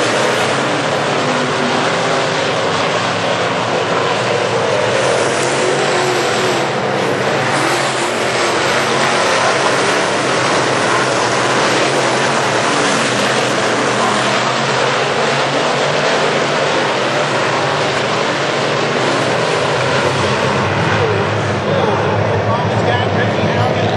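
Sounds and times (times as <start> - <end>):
race car engines droning: 0.0 - 23.9.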